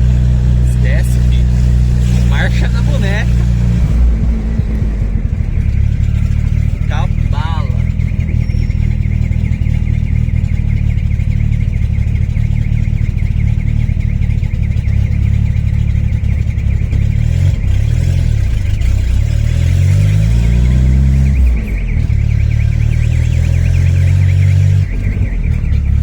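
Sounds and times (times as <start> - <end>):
turbocharged car engine revving: 0.0 - 26.0.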